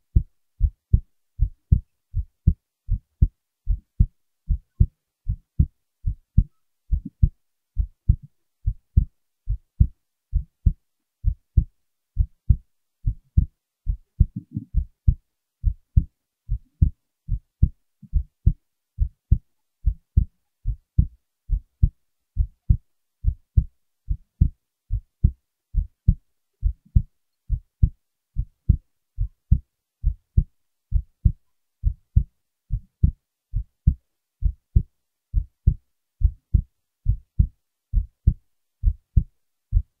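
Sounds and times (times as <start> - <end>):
heartbeat thumps: 0.0 - 40.0.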